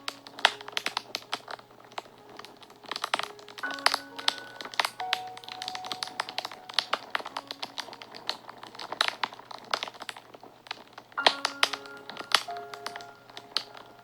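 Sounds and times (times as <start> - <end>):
faint hiss: 0.0 - 14.0
wood fire crackling and popping: 0.0 - 14.0.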